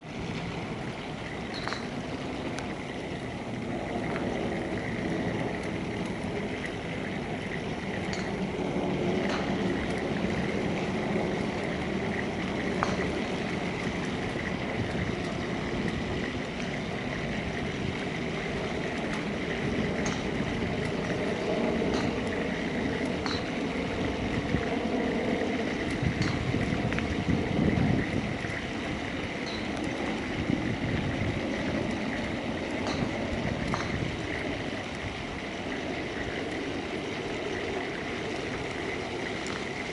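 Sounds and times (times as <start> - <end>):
outdoor background rumble: 0.0 - 39.9.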